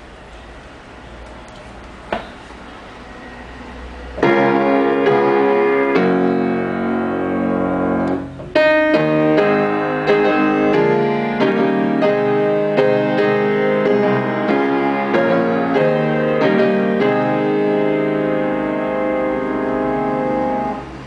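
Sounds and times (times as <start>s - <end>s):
upright piano chords: 3.9s - 21.0s.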